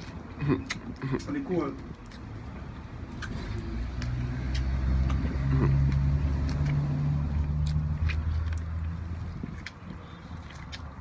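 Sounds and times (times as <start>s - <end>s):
clicks of eating a mango: 0.0s - 1.3s, 3.1s - 11.0s
vehicle engine humming: 1.2s - 11.0s.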